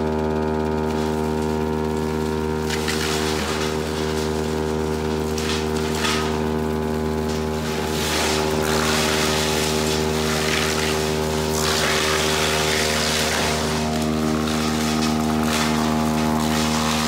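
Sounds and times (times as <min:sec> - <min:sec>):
sawmill machinery drone: 0:00.0 - 0:17.0.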